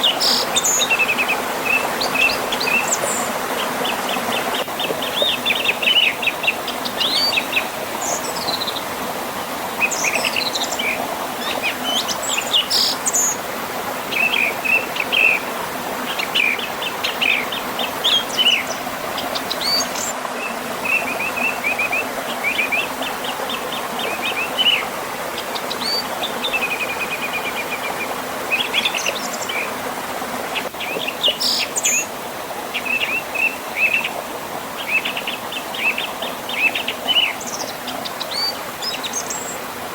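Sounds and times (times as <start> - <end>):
birds chirping and trilling: 0.0 - 8.9, 9.8 - 13.5, 14.1 - 29.8, 34.8 - 39.7.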